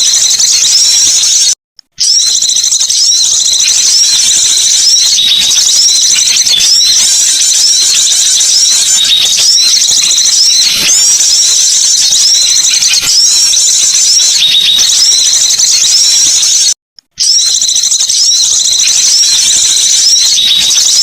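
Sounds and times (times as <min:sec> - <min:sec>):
recorded bird lure chirps: 0:00.0 - 0:21.0.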